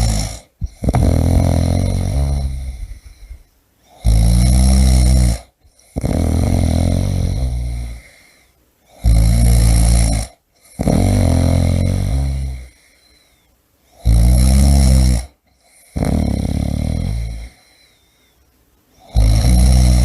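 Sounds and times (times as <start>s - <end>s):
person snoring loudly: 0.0s - 13.0s, 13.9s - 17.9s, 19.0s - 20.0s.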